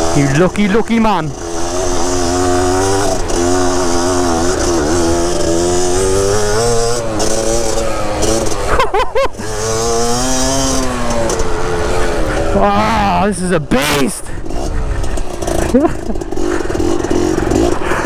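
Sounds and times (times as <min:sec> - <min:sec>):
two-stroke dirt bike engine: 0:00.0 - 0:18.0.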